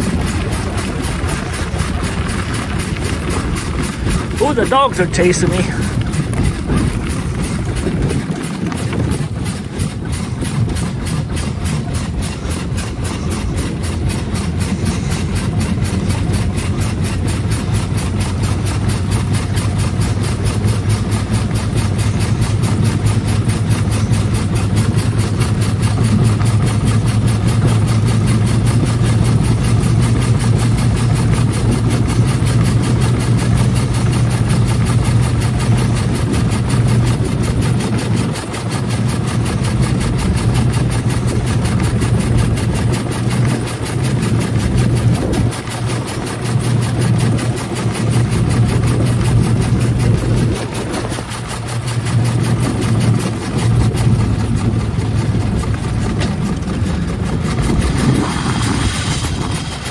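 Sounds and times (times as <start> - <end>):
single-cylinder car engine running: 0.0 - 59.9.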